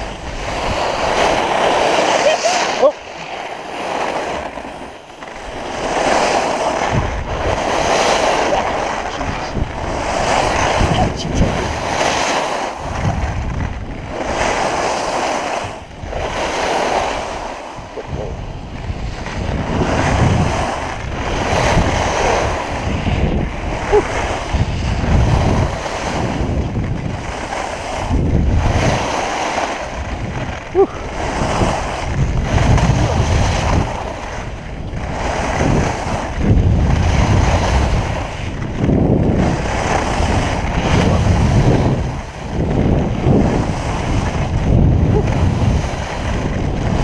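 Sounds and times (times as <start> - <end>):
skis scraping on icy snow: 0.0 - 47.0
wind on microphone: 0.0 - 47.0.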